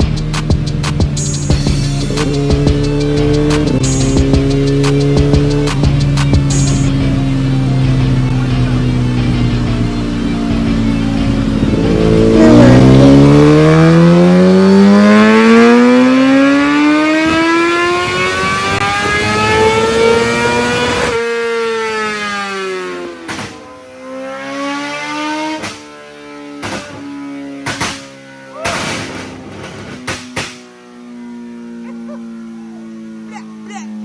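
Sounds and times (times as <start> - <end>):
exhaust cracks: 0.0 - 21.2, 25.0 - 32.9
motorcycle engine revving hard: 0.0 - 30.4.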